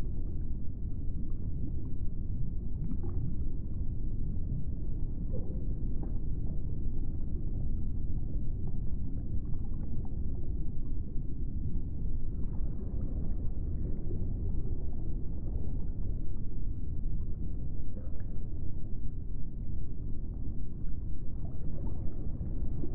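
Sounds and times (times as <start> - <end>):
deep rumbling drone: 0.0 - 22.9.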